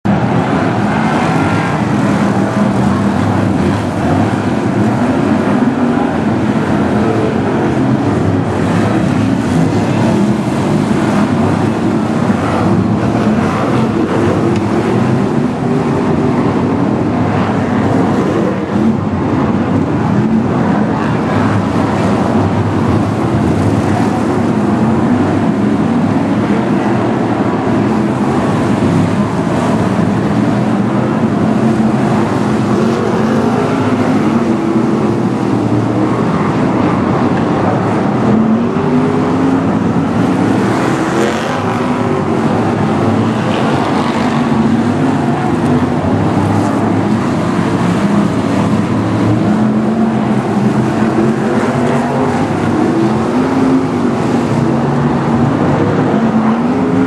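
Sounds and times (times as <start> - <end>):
racing car engines: 0.0 - 57.0.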